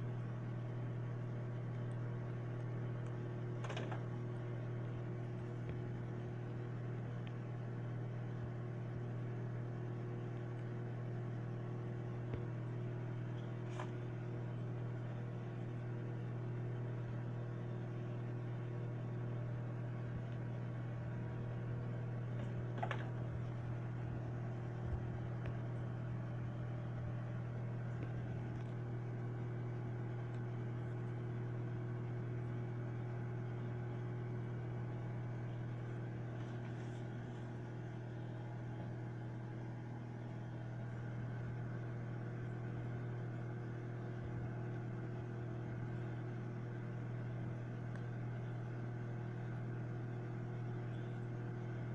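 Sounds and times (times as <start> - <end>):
microwave oven humming: 0.0 - 51.9.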